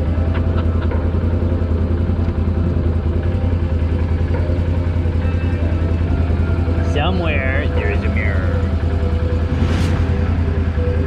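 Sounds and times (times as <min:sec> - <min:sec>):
atv engine idling: 0:00.0 - 0:09.5, 0:10.2 - 0:11.0.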